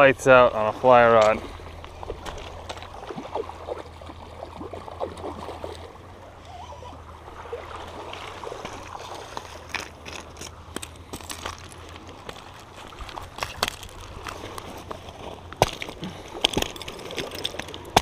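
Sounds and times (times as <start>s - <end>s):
steady low hum: 0.0s - 18.0s
water lapping against rocks: 0.0s - 18.0s.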